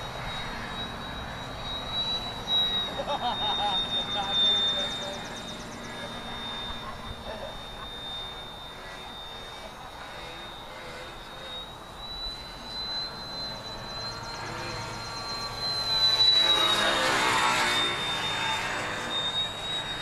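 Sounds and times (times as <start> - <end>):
model airplane motor whining: 0.0 - 20.0.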